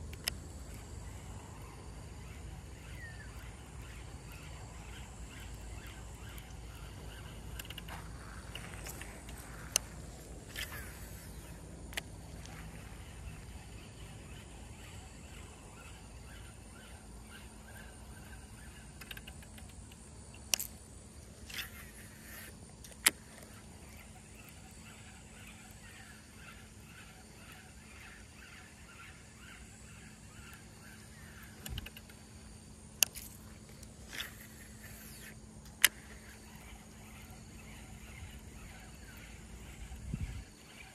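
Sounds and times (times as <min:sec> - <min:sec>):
quiet outdoor background: 0:00.0 - 0:40.9.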